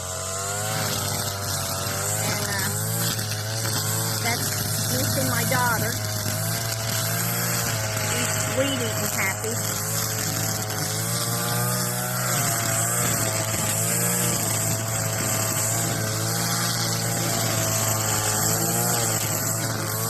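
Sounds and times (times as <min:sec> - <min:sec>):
gas string trimmer running: 0:00.0 - 0:20.0.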